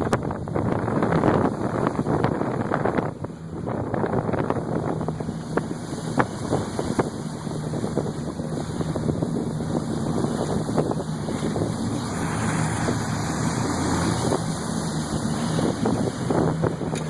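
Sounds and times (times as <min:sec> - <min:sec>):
motorboat engine running: 0:00.0 - 0:17.0
water rushing past hull: 0:00.0 - 0:17.0
wind buffeting microphone: 0:00.0 - 0:17.0.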